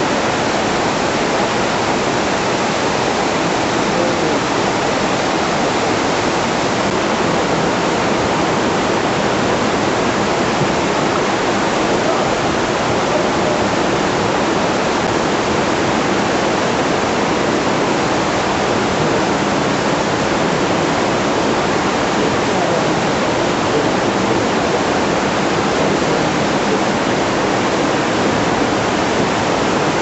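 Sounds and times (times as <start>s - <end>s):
flood water rushing: 0.0s - 30.0s.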